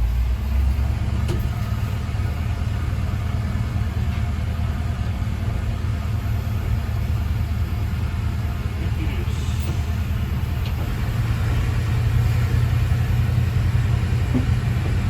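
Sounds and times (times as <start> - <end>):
diesel railcar engine rumbling: 0.0 - 15.0.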